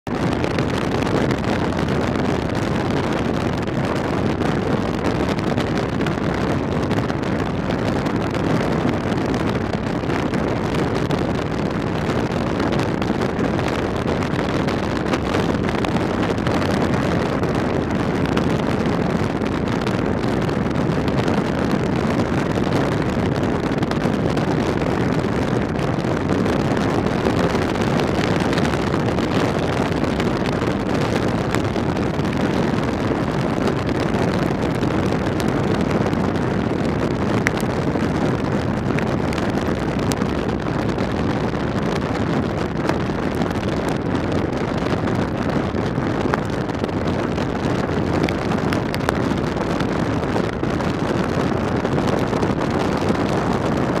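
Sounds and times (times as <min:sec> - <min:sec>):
wind over microphone: 0:00.0 - 0:54.0.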